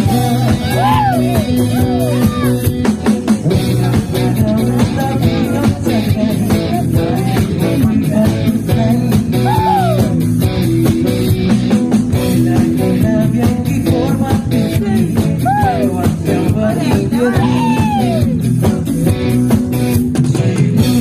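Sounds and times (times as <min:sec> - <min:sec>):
man singing into microphone: 0:00.0 - 0:10.2, 0:10.8 - 0:19.4, 0:20.1 - 0:21.0
drum kit steady beat: 0:00.0 - 0:21.0
electric bass: 0:00.0 - 0:21.0
electric guitars: 0:00.0 - 0:21.0.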